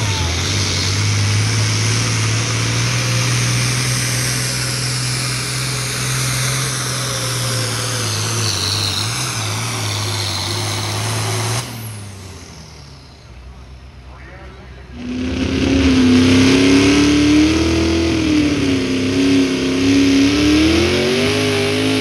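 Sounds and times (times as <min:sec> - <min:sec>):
diesel tractor engine drone: 0:00.0 - 0:22.0.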